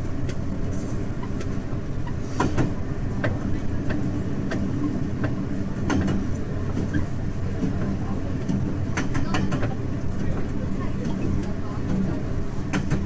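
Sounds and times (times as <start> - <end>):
railcar engine drone: 0.0 - 13.0
wheels clicking over rail joints: 0.2 - 13.0.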